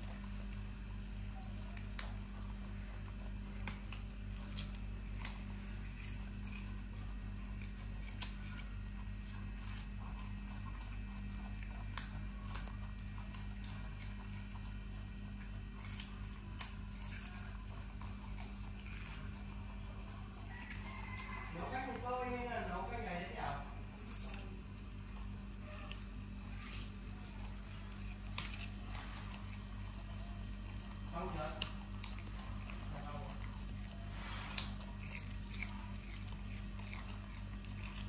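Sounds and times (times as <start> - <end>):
monkey chewing carrot crunches: 0.0 - 38.0
steady low hum: 0.0 - 38.0.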